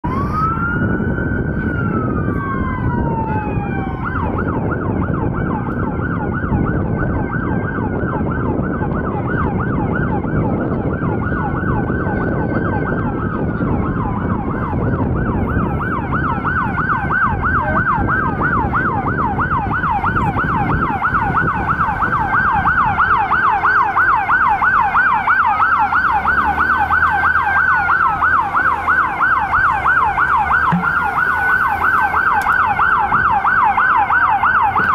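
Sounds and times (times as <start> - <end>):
emergency sirens wailing: 0.0 - 34.9.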